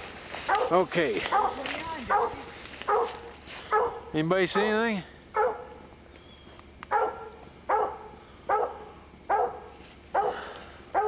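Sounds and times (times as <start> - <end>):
dog barking: 0.5 - 4.8, 5.4 - 5.8, 6.9 - 11.0.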